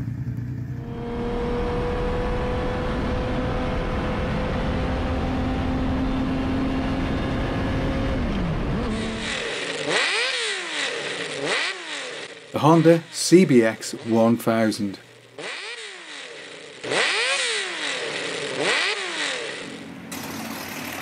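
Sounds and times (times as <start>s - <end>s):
wind and road noise: 0.0s - 12.9s, 15.1s - 21.0s
motorcycle engine cruising: 0.0s - 21.0s
motorcycle engine revving: 0.0s - 21.0s.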